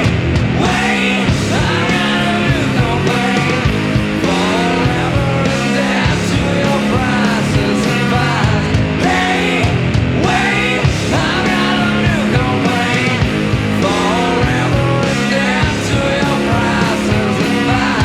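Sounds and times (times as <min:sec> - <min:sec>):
rock music from a vinyl record: 0:00.0 - 0:18.0.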